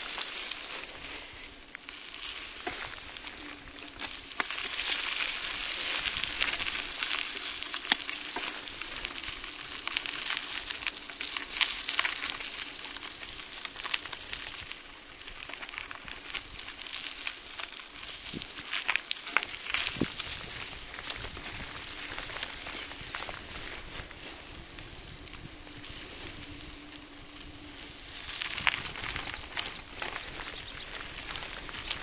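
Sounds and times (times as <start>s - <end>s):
bicycle tyres crunching on gravel: 0.0s - 32.0s.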